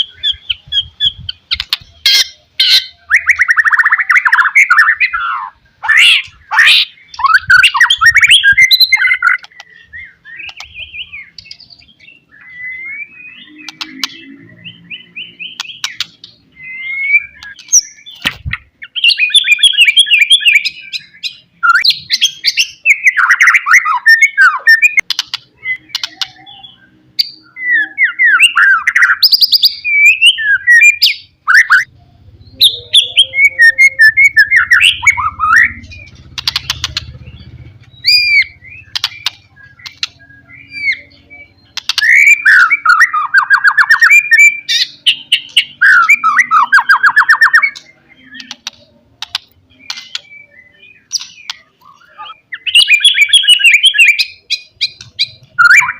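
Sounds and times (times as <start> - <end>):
bird singing whistles and trills: 0.0 - 55.9.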